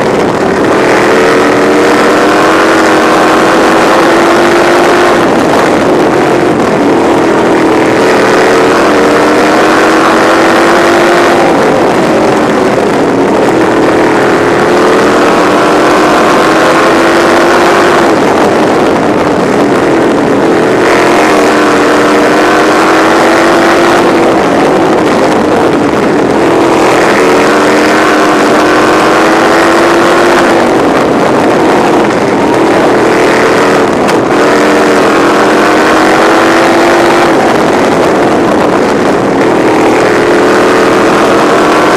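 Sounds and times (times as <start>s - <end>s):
race car engine at full power: 0.0s - 41.9s.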